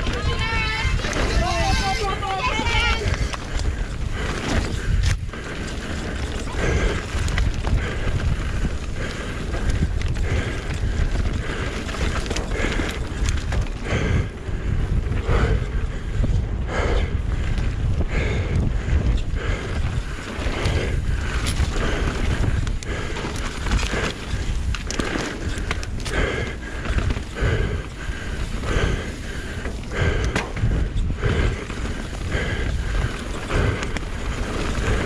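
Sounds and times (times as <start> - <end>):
tyres on dirt: 0.0 - 15.8, 16.5 - 35.0
mountain bike rattling: 0.0 - 35.0
wind rushing over microphone: 0.0 - 35.0.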